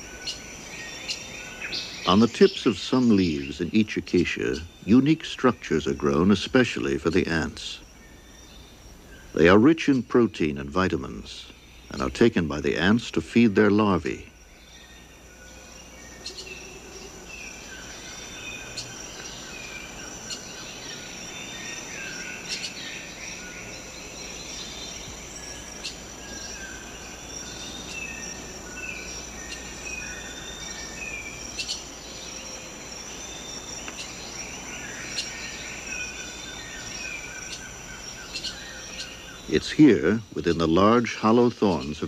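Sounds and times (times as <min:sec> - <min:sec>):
falling bird chirps: 0:00.0 - 0:42.0
high-pitched insect drone: 0:00.0 - 0:42.0.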